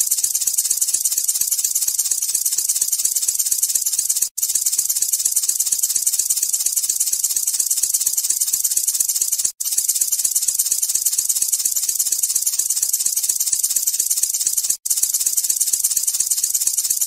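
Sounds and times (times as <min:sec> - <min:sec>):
snake hissing rattle: 0:00.0 - 0:17.0.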